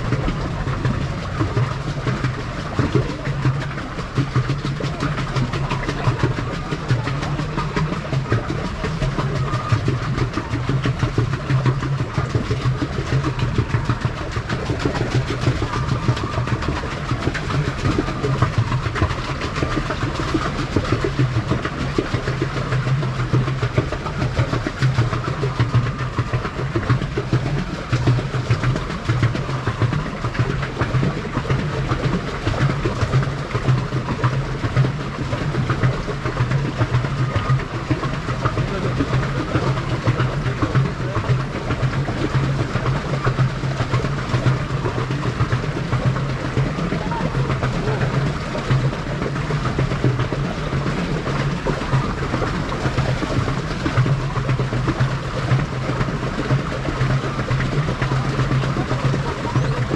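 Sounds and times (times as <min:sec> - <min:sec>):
low hum: 0:00.0 - 0:59.9
paddle wheel churning water: 0:00.0 - 0:59.9
rapid clatter: 0:00.0 - 0:59.9.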